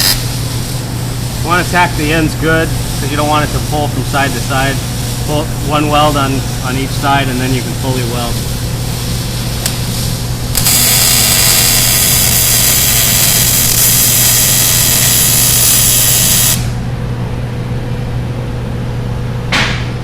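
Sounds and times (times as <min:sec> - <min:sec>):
welder hissing: 0:00.0 - 0:16.9.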